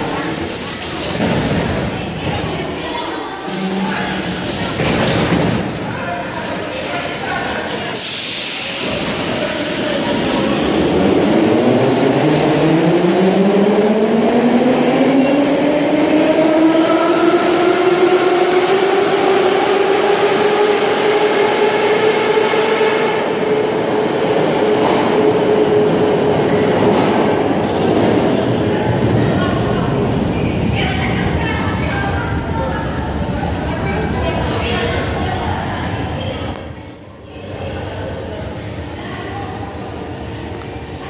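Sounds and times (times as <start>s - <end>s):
train rolling rumble: 0.0s - 36.8s.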